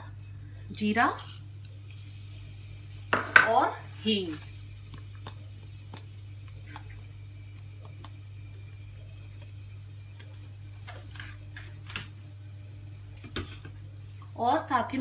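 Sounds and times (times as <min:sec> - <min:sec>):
seeds sizzling in oil: 0:00.0 - 0:15.0
steady low hum: 0:00.0 - 0:15.0.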